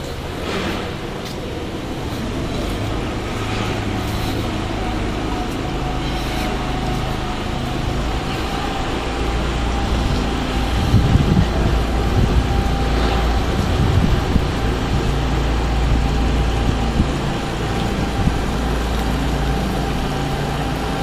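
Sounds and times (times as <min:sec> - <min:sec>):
low outdoor ambient rumble: 0:00.0 - 0:21.0.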